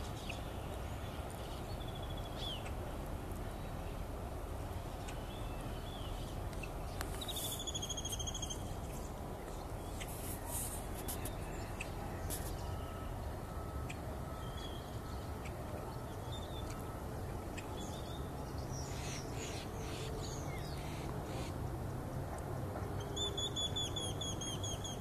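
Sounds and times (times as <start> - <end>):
low outdoor rumble: 0.0 - 24.2.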